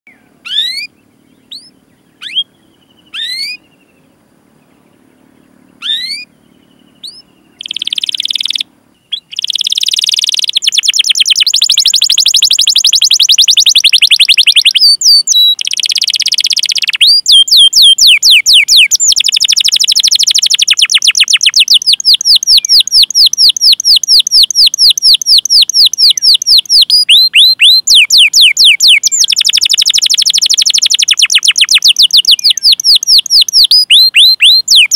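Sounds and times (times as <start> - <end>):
canary call notes: 0.1 - 4.0, 4.6 - 34.9
canary trilling song: 0.1 - 34.9.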